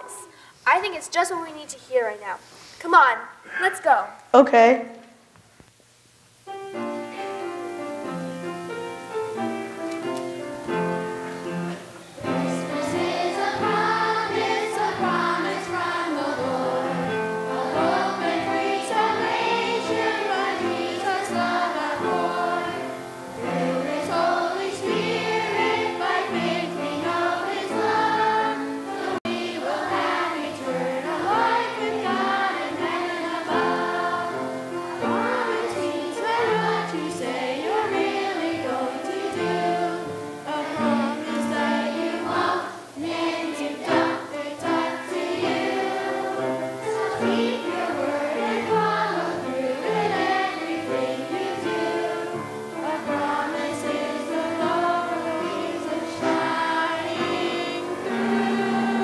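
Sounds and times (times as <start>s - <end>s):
children's choir singing: 6.5s - 59.0s
piano accompaniment: 6.5s - 59.0s.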